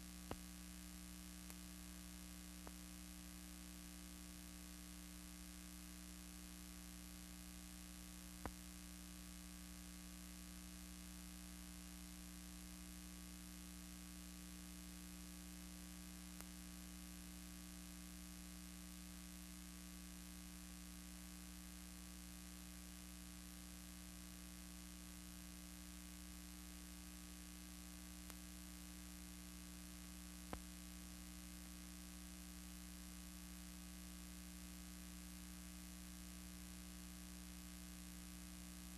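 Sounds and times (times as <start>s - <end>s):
faint electrical hum: 0.0s - 38.9s.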